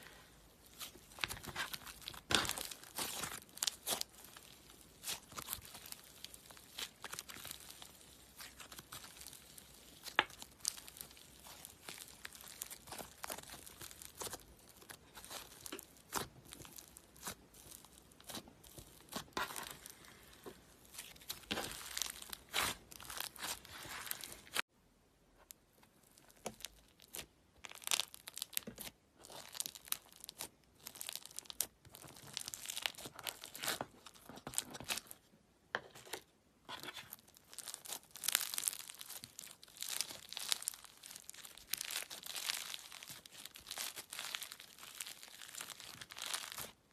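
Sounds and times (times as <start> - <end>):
slime crackling and popping: 0.0 - 24.7, 25.9 - 35.1, 36.7 - 46.9.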